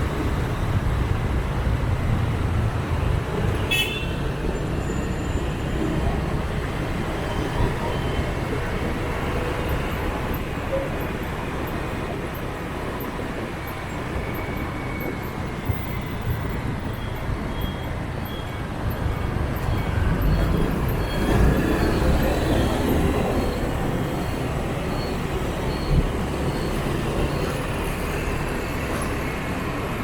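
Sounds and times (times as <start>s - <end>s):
motorbike traffic rumble: 0.0s - 30.0s
road noise: 0.0s - 30.0s.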